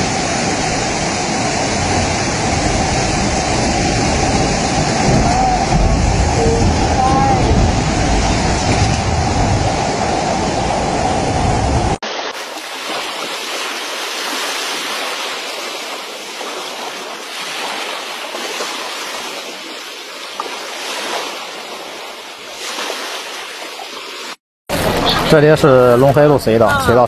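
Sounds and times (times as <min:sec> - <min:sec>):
floodwater rushing: 0:00.0 - 0:26.1.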